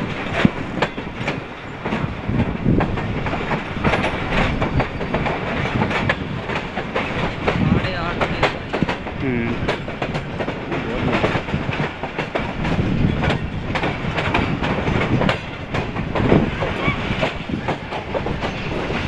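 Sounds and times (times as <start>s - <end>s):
train rumbling over track: 0.0s - 19.0s
wheel clicks over rail joints: 0.0s - 19.0s.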